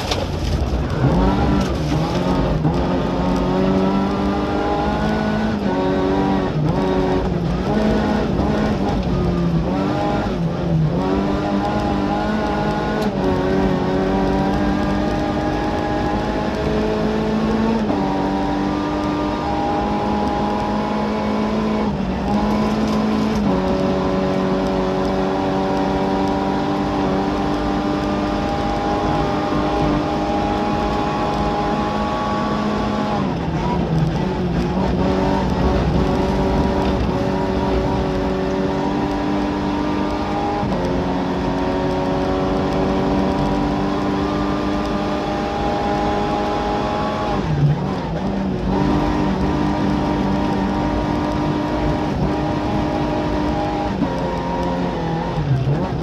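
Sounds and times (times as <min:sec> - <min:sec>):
rally car engine at high revs: 0:00.0 - 0:56.0
road noise: 0:00.0 - 0:56.0.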